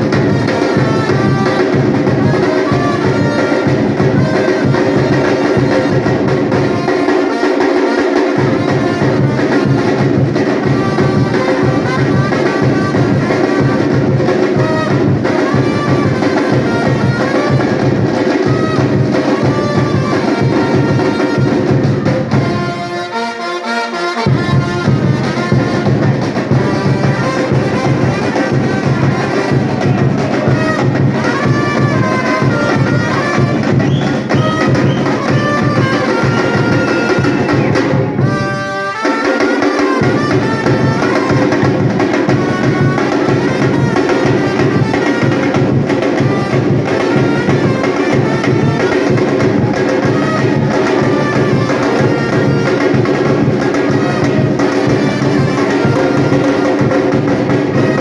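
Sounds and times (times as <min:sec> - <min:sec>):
brass melody: 0:00.0 - 0:58.0
samba drums: 0:00.0 - 0:58.0.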